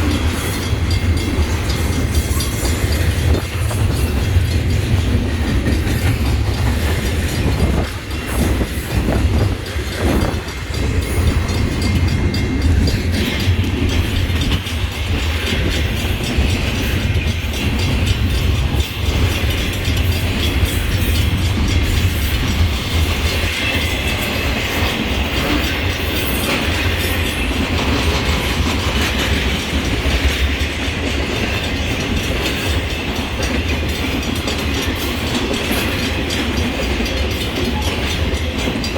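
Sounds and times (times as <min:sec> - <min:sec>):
train wheels rumbling on track: 0:00.0 - 0:38.9
wheels clattering over rail joints: 0:00.0 - 0:38.9.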